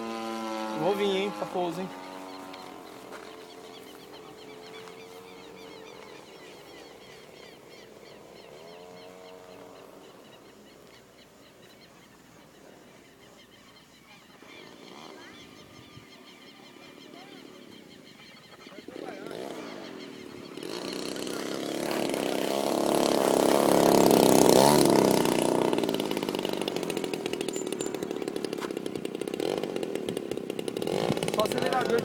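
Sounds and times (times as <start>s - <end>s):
model airplane engine droning: 0.0s - 13.6s, 14.3s - 32.0s.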